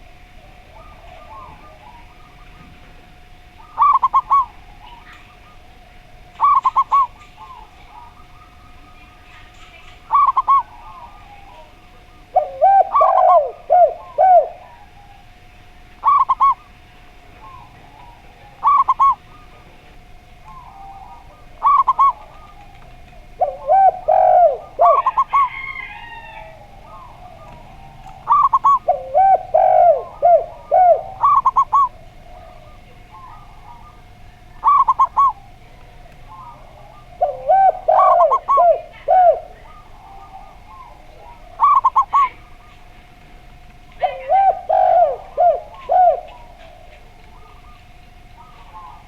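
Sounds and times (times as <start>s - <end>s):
doves cooing: 0.0s - 49.0s
faint steady hum: 0.0s - 49.0s.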